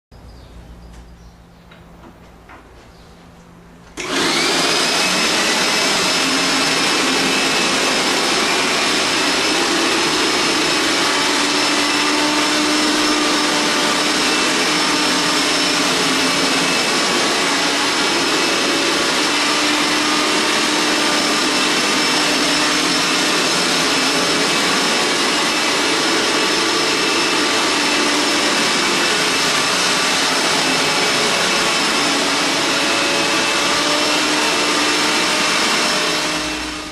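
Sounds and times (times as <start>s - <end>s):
carpet shampooer motor whirring: 3.9s - 36.9s.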